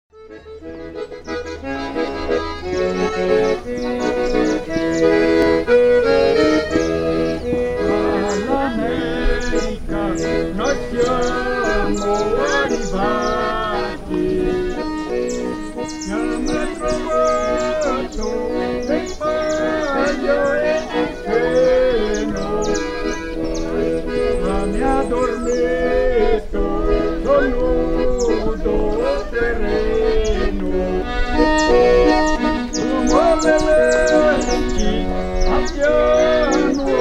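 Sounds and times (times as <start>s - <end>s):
accordion music: 0.1s - 37.0s
higher sliding notes: 0.3s - 37.0s.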